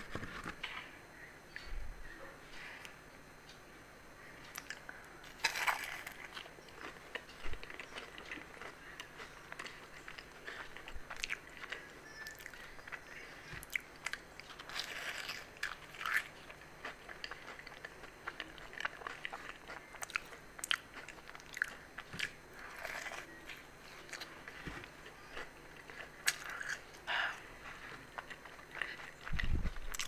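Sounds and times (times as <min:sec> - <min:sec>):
chewing: 0:04.4 - 0:30.0
pastry crunching under bites: 0:04.5 - 0:30.0.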